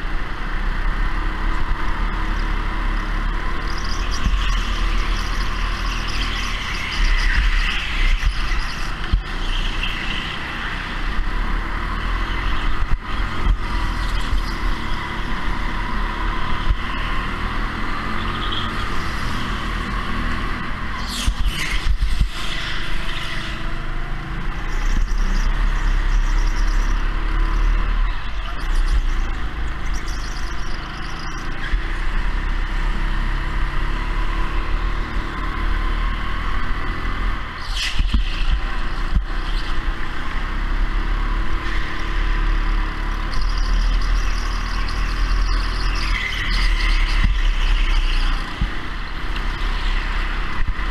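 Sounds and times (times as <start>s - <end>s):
go-kart motor and tyre drone: 0.0s - 50.9s.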